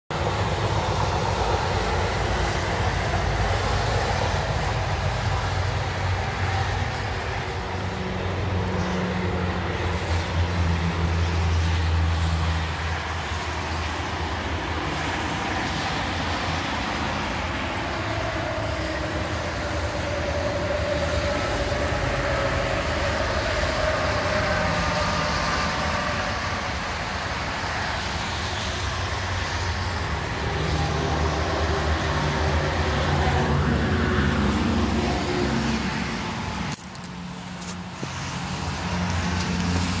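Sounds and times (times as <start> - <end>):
highway traffic rumble: 0.1 - 40.0.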